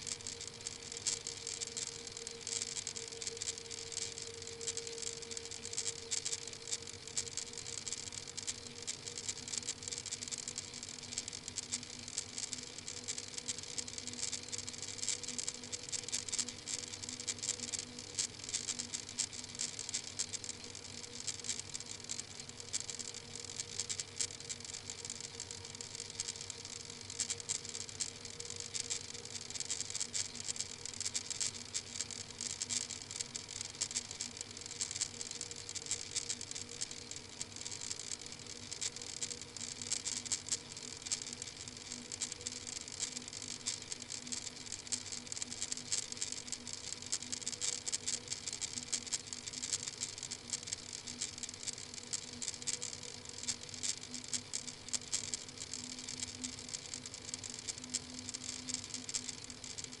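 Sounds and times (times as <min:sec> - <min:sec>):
faint steady hum: 0:00.0 - 1:00.0
microphone hiss and crackling: 0:00.0 - 1:00.0.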